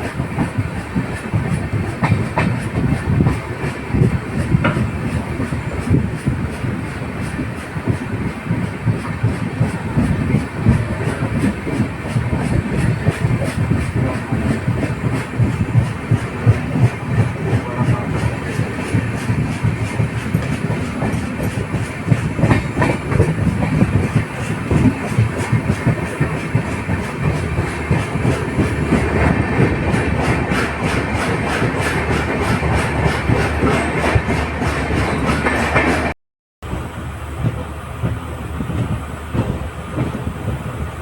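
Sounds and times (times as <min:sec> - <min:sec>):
wheels clacking over rail joints: 0:00.0 - 0:36.1
train rumble: 0:00.0 - 0:41.0.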